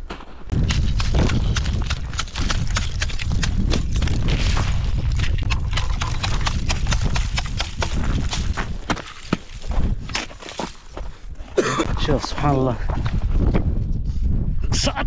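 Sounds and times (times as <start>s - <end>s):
ice crunching and cracking: 0.1s - 12.6s
wind buffeting microphone: 0.5s - 15.0s.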